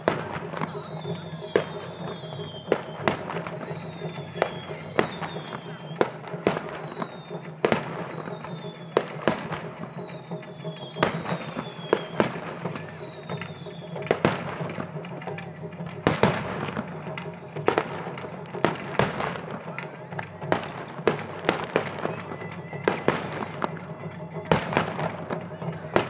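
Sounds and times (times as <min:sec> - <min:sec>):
fireworks bangs: 0:00.0 - 0:26.0
fireworks whistles sliding down: 0:00.0 - 0:26.0.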